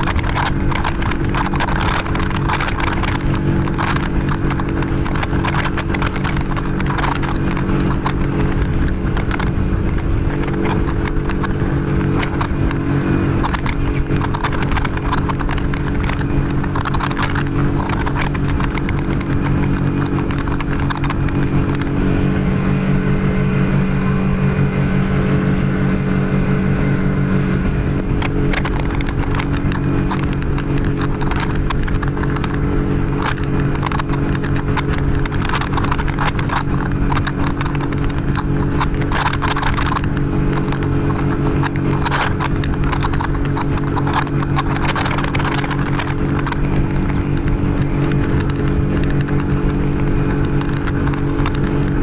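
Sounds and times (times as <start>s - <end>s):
hull slapping against waves: 0.0s - 52.0s
outboard motor running: 0.0s - 52.0s
water rushing past: 0.0s - 52.0s.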